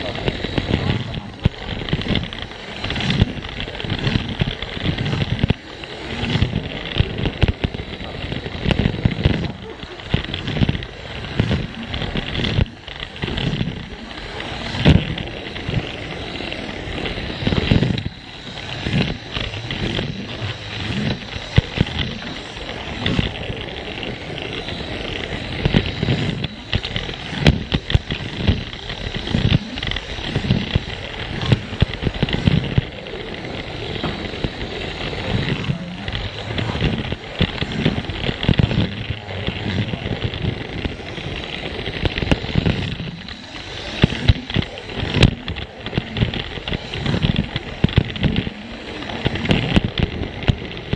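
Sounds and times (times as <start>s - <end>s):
toy train motor running: 0.0s - 50.9s
wheels rolling on plastic track: 0.0s - 50.9s.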